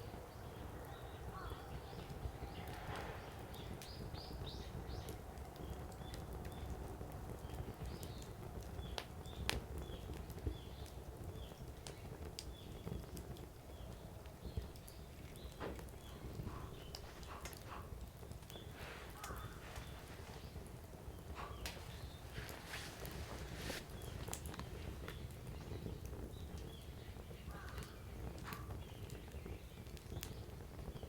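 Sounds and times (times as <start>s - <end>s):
firewood crackling and popping: 0.0s - 31.0s
low rumble of flame: 0.0s - 31.0s.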